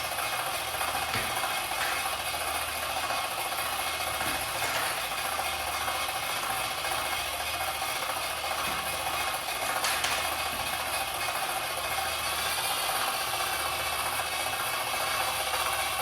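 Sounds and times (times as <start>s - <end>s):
small motor and gears whirring: 0.0s - 16.0s.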